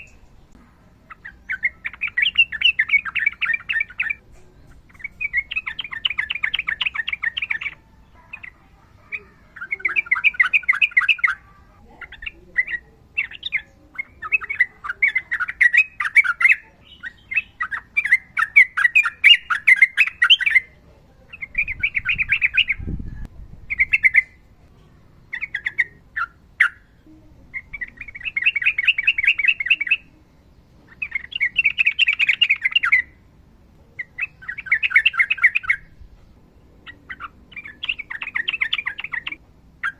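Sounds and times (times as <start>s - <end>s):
bird singing fast trills: 0.0s - 24.4s, 25.1s - 33.3s, 33.9s - 39.9s.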